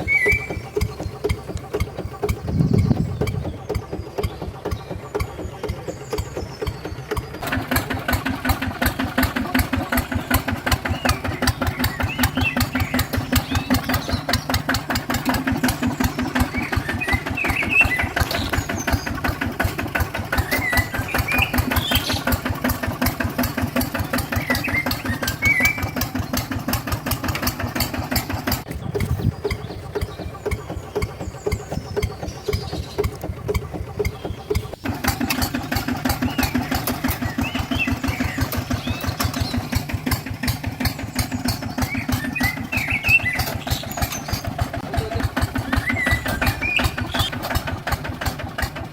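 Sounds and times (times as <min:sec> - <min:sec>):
small tractor engine running: 0:00.0 - 0:48.9.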